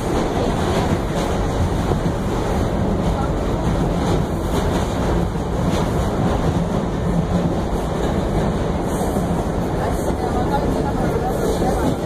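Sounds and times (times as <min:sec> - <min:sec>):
subway wheels rumbling on track: 0:00.0 - 0:12.0.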